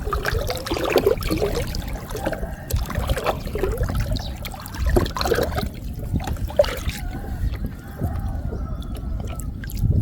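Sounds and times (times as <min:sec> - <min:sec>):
water trickling and splashing: 0:00.0 - 0:10.0.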